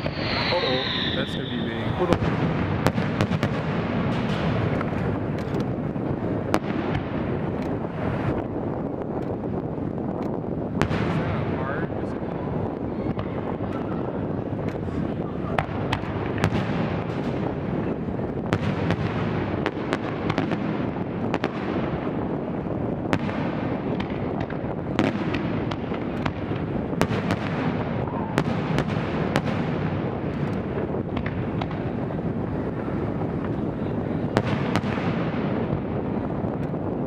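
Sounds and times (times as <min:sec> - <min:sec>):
fireworks bursting with sharp bangs: 0:00.0 - 0:37.0.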